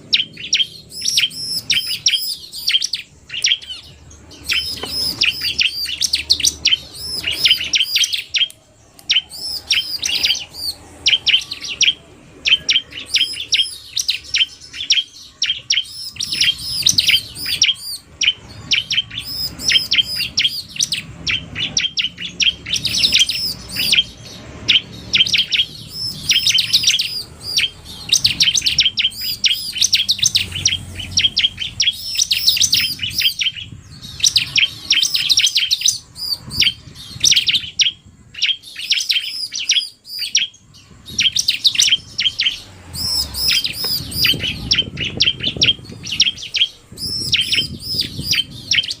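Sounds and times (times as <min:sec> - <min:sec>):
birds chirping song: 0:00.0 - 0:49.0.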